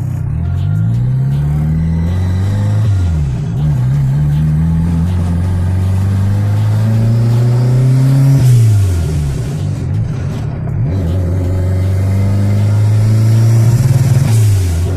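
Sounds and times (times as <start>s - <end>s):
turbocharged car engine revving: 0.0s - 14.9s.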